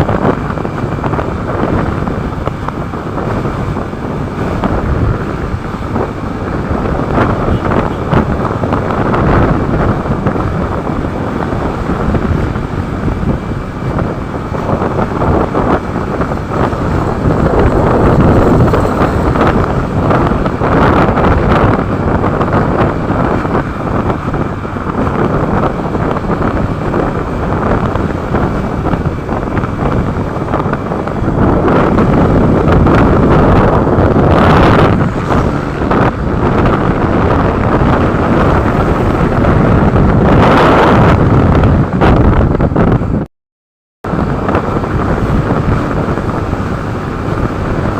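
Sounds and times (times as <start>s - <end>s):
motorcycle running: 0.0s - 43.3s, 44.0s - 47.9s
wind buffeting microphone: 0.0s - 43.3s, 44.0s - 47.9s.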